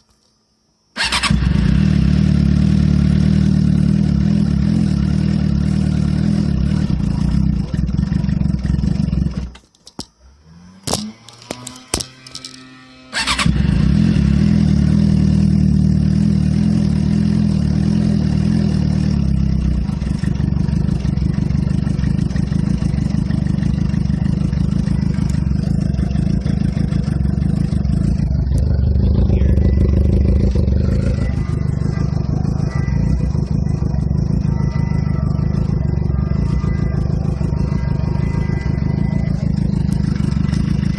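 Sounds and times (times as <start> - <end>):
motorcycle engine starting and running: 1.0 - 40.9.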